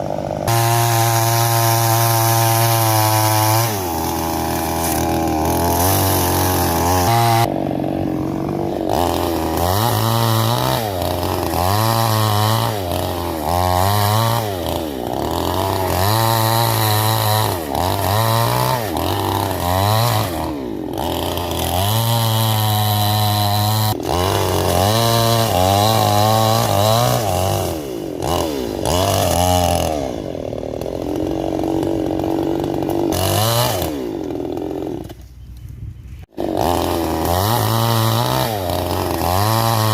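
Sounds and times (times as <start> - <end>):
chainsaw cutting wood: 0.0 - 35.6, 36.2 - 39.9.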